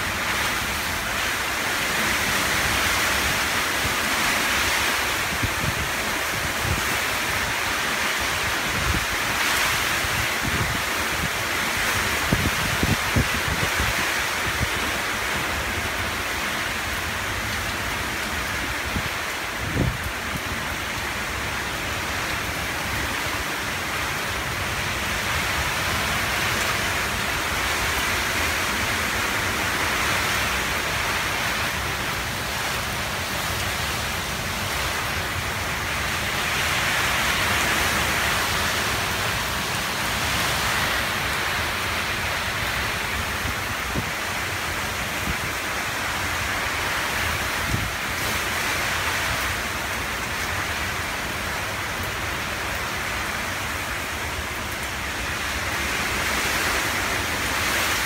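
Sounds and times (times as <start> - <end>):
gusty wind: 0.0 - 58.0
heavy rain: 0.0 - 58.0.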